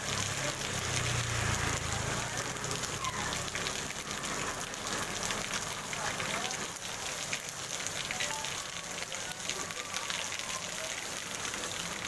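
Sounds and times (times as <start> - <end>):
rain pattering on wet street: 0.0 - 12.0.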